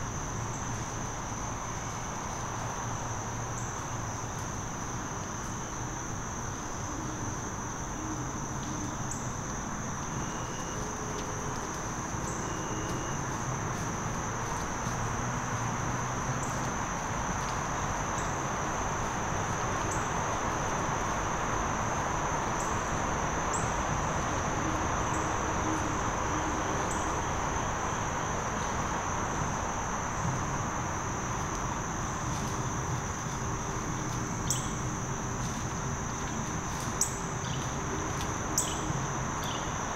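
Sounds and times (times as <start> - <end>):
background hiss: 0.0 - 39.9
insects trilling: 0.0 - 39.9.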